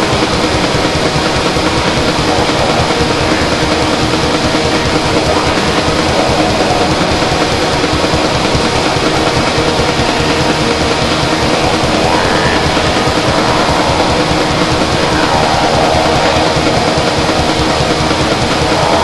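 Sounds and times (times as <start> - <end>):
harsh distorted noise music: 0.0 - 19.0.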